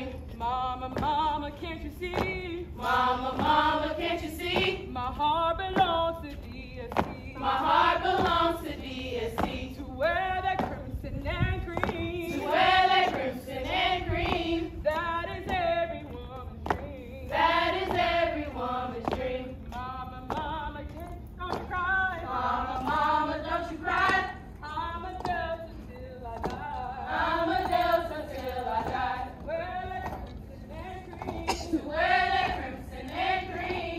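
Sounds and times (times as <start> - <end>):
women singing in unison: 0.0 - 33.9.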